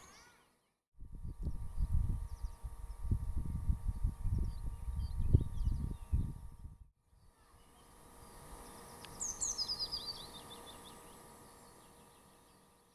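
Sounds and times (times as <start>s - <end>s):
songbird singing: 0.0s - 3.1s, 3.8s - 12.9s
faint outdoor ambience: 0.0s - 12.9s.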